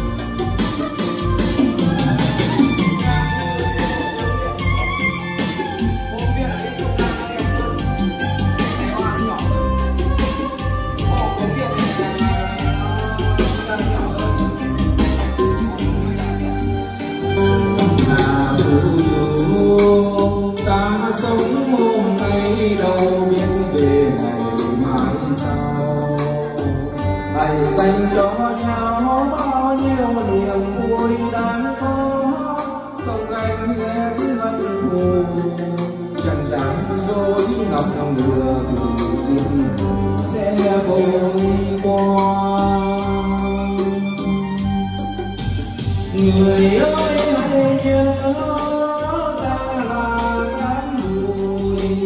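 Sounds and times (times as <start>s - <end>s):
backing track with steady bass: 0.0s - 52.0s
man singing ballad into microphone: 0.0s - 52.0s.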